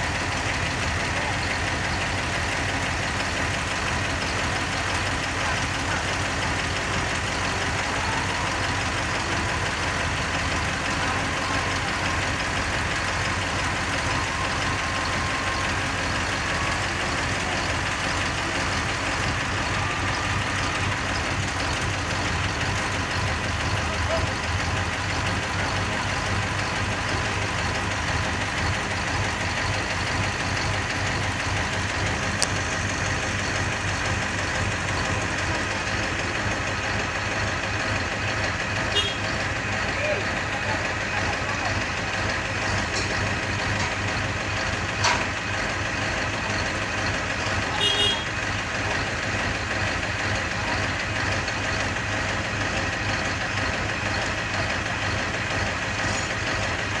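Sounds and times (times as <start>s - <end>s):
heavy vehicle engine running: 0.0s - 57.0s.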